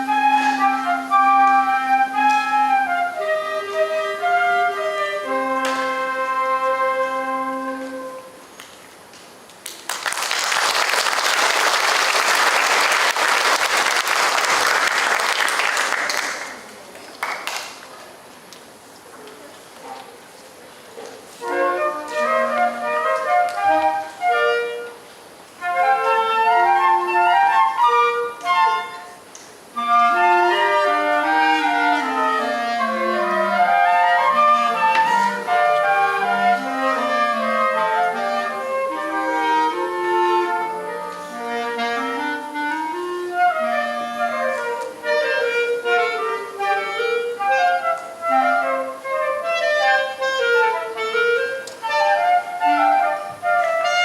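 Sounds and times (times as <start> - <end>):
woodwind ensemble playing: 0.0 - 8.5, 10.5 - 16.7, 21.3 - 54.0.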